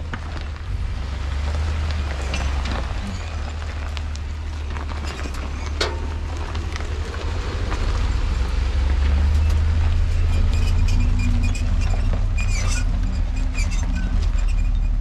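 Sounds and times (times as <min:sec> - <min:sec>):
knocks and rattles of load: 0:00.0 - 0:15.0
truck engine and tyres rumbling: 0:00.0 - 0:15.0.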